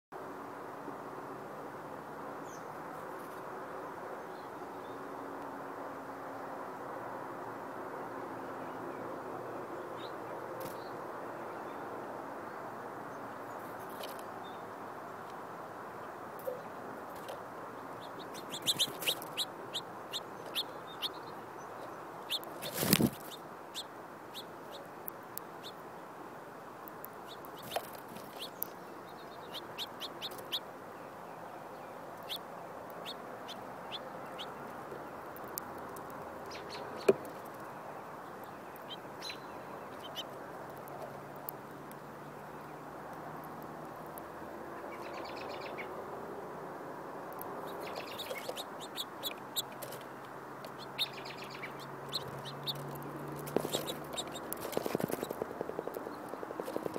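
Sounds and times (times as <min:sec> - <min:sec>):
steady outdoor hiss: 0:00.1 - 0:56.9
birds chirping: 0:08.1 - 0:56.9.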